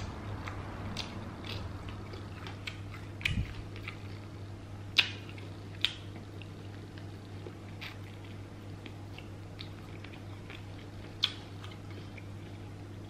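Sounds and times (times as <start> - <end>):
wet chewing and smacking: 0.0 - 12.8
steady low hum: 0.0 - 13.0.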